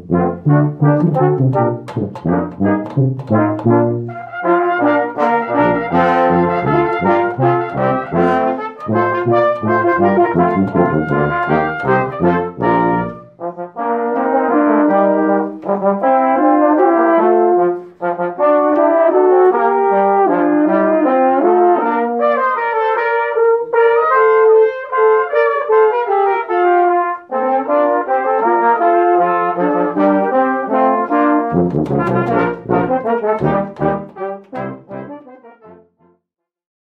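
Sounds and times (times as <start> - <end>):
brass ensemble playing: 0.0 - 36.1.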